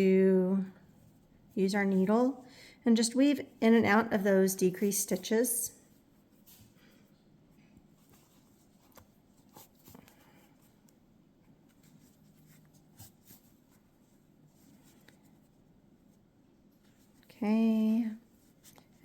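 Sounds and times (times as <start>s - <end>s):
faint rustling of yarn: 0.0s - 19.0s.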